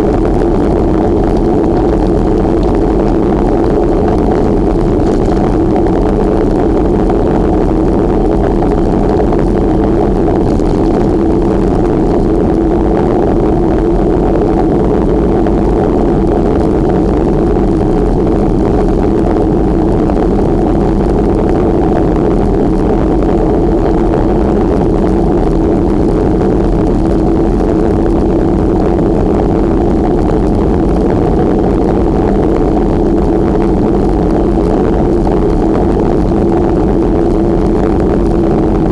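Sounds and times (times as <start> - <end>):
wind rushing on microphone: 0.0 - 38.9.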